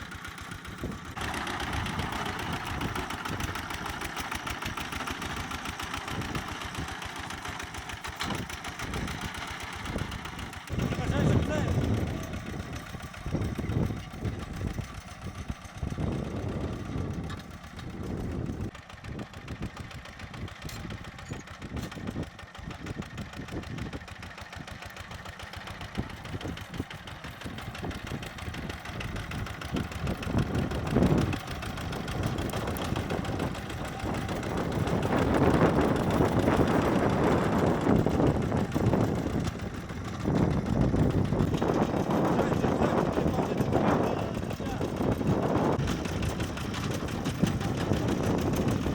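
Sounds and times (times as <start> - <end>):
rotary tiller in soil: 0.0 - 48.9
tractor engine running: 0.0 - 48.9.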